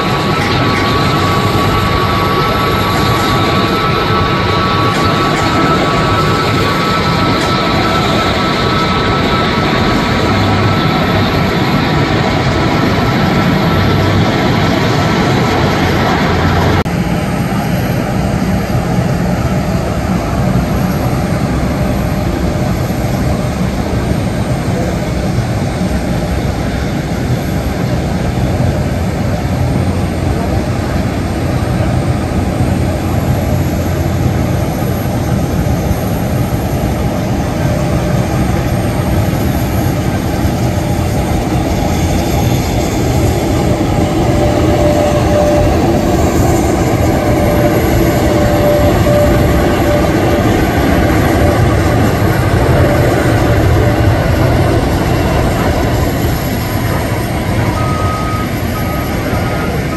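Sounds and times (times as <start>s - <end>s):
jet engines running: 0.0s - 59.9s
thin steady whine: 0.0s - 59.9s.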